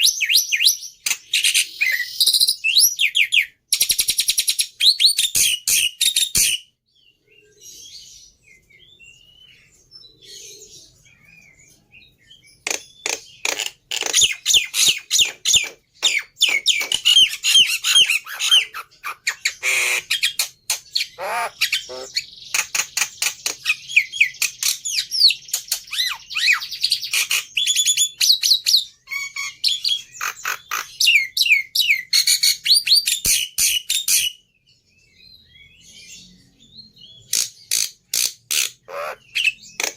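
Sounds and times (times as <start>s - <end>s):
starling singing: 0.0s - 34.5s, 35.1s - 39.9s.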